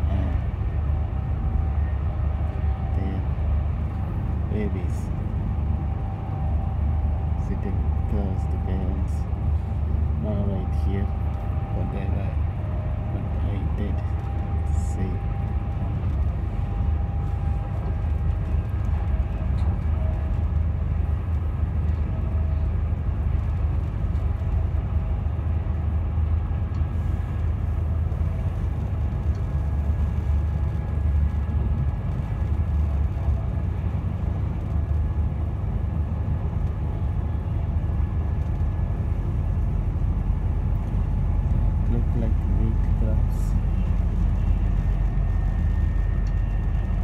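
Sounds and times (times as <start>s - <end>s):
faint whining tones: 0.0s - 47.0s
train wheels rumbling on track: 0.0s - 47.0s.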